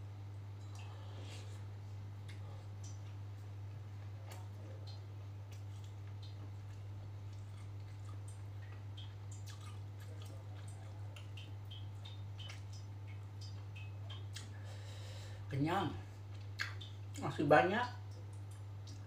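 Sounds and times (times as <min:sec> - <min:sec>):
steady low hum: 0:00.0 - 0:19.0
soft chewing: 0:00.6 - 0:15.4, 0:16.1 - 0:17.2.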